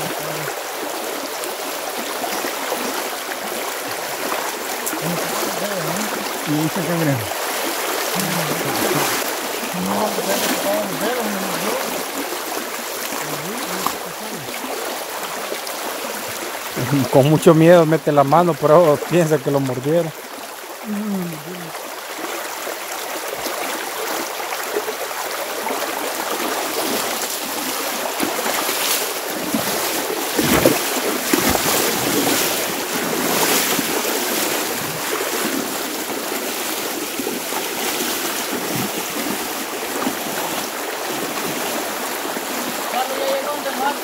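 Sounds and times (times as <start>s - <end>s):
creek water rushing: 0.0s - 44.0s.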